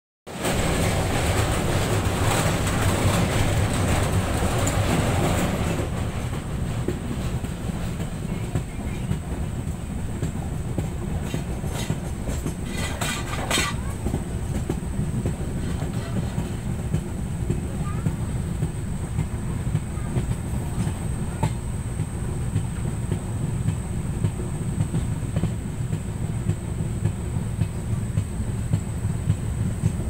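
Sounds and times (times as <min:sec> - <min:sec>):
train clicks and clatter: 0:00.3 - 0:30.0
train rumble inside carriage: 0:00.3 - 0:30.0.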